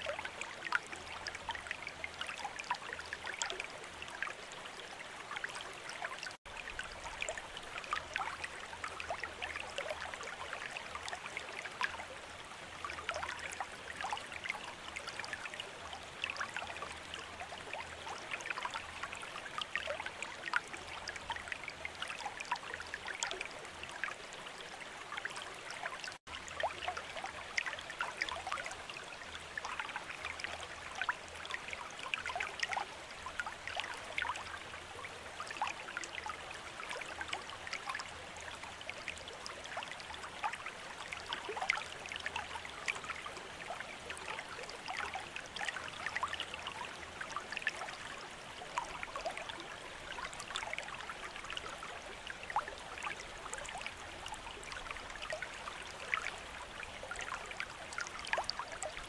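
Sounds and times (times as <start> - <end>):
fountain water trickling and splashing: 0.0 - 59.0.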